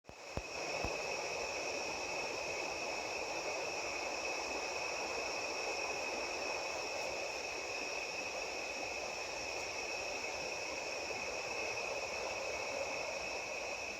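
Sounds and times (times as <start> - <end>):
insects trilling: 0.1 - 13.9.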